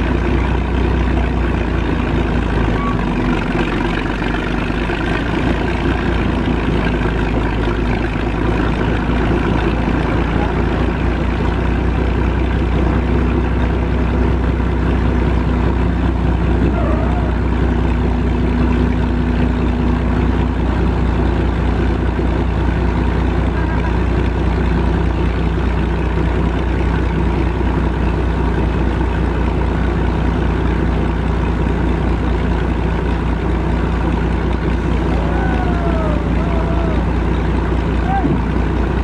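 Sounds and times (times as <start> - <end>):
tractor engine droning: 0.0 - 39.0.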